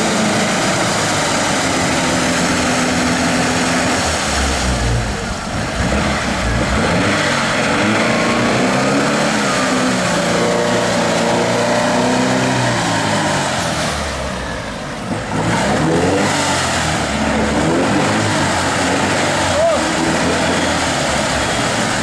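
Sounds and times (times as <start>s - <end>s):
engine revving hard: 0.0s - 22.0s
tyres churning in mud: 0.0s - 22.0s.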